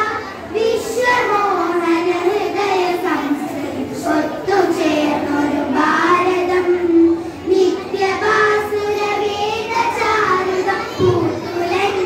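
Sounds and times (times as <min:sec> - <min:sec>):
girls singing together: 0:00.0 - 0:12.0.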